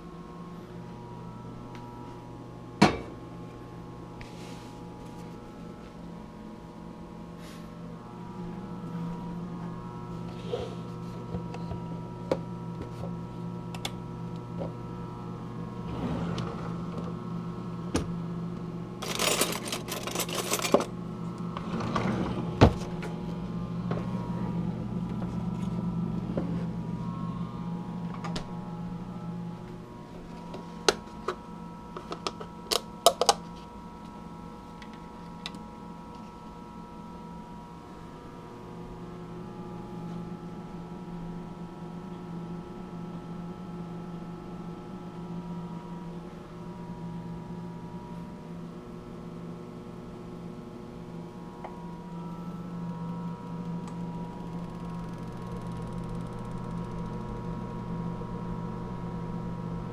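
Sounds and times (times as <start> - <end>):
electrical appliance humming: 0.0 - 59.9.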